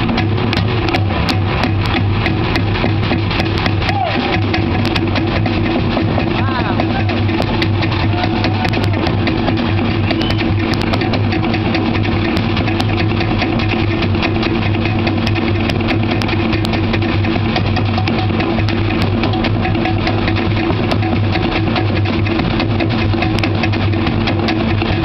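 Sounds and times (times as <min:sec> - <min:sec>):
live music with drumming: 0:00.0 - 0:25.0.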